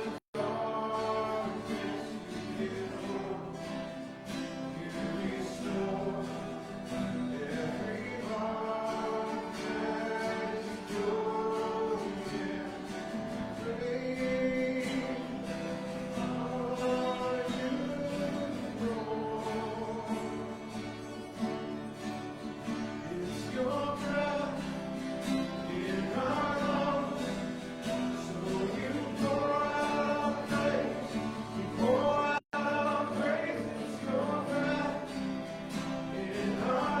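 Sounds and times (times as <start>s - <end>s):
congregation singing: 0.0s - 37.0s
guitar accompaniment: 0.0s - 37.0s.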